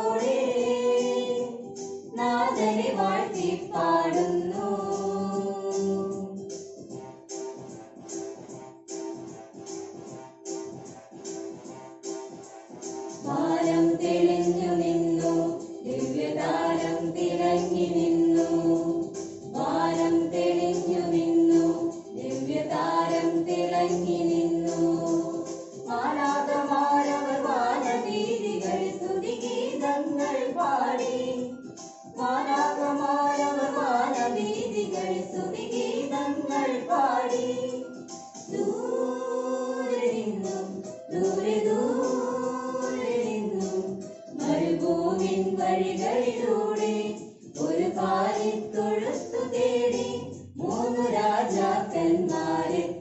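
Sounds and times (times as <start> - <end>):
men and women singing a hymn: 0.0 - 1.6, 2.2 - 6.4, 13.2 - 31.6, 32.2 - 37.8, 38.5 - 53.0.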